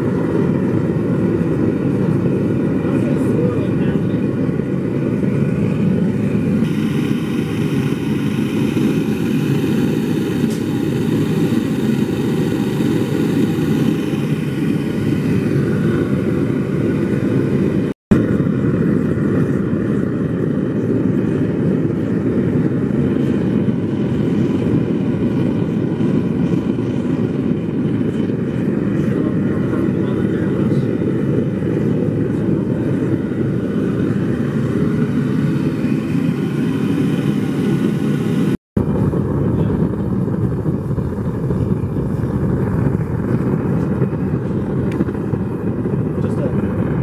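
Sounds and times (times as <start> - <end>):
gas burner roaring: 0.0 - 47.0.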